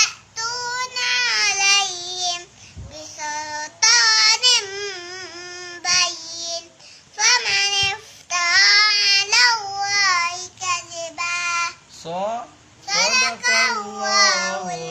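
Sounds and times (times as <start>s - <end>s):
child chanting melodic recitation: 0.0s - 11.9s, 12.8s - 14.9s.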